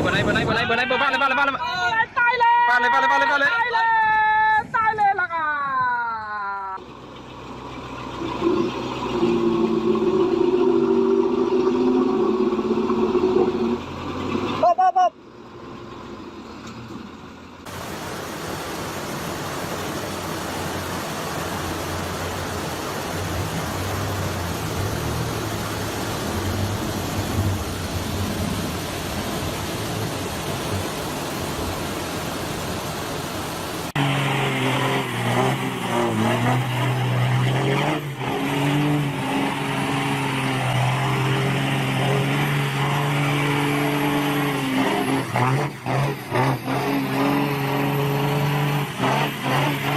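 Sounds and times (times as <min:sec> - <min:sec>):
road noise: 0:00.0 - 0:49.9.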